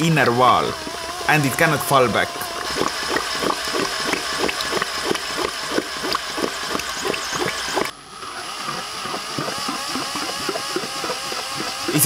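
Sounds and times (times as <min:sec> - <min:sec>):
power drill motor whine: 0:00.0 - 0:12.0
water churning and splashing: 0:00.1 - 0:12.0.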